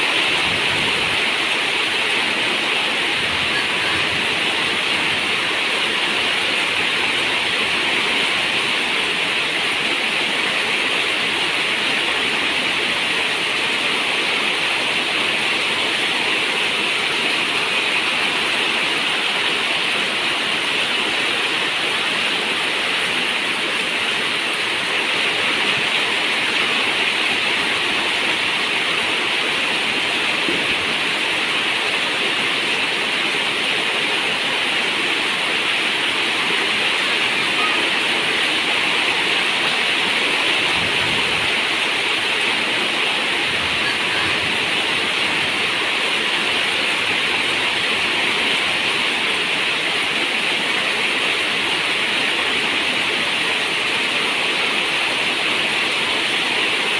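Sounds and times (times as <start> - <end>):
rain on a metal roof: 0.0 - 56.9.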